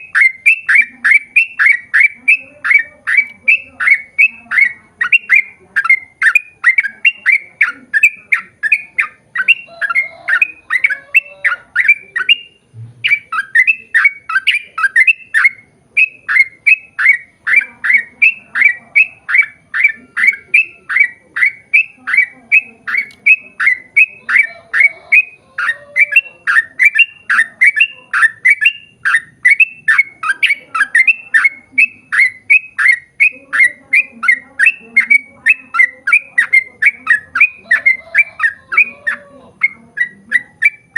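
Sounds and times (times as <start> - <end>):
bulbul singing: 0.0 - 40.9.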